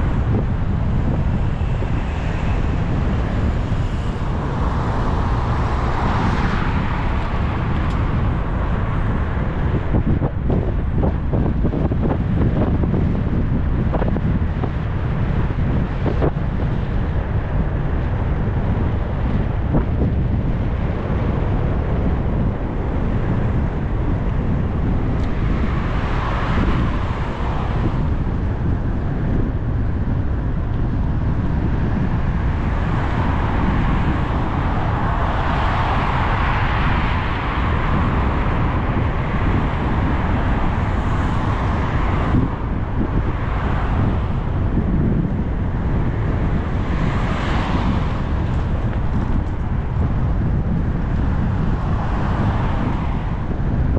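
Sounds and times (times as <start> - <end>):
cars passing: 0.0 - 53.9
wind rushing over microphone: 0.0 - 53.9.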